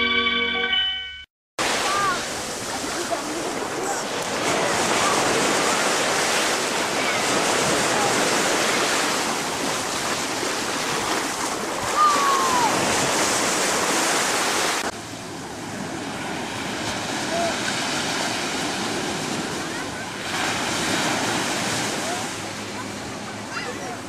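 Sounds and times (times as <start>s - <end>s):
surf washing onto beach: 1.6s - 24.0s.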